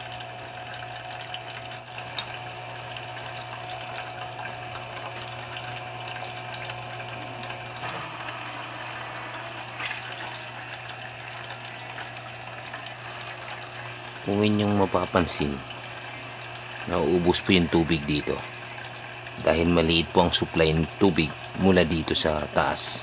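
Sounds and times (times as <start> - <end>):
pump motor hum: 0.0 - 23.0
water trickling and splashing: 0.0 - 23.0.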